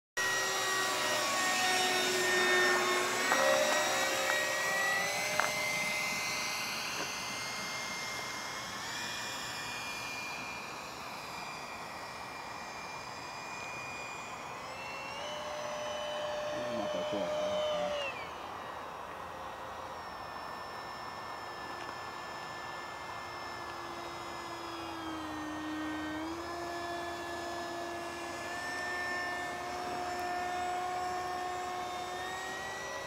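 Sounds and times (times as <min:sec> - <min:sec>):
electric ducted fan whine: 0:00.2 - 0:33.0.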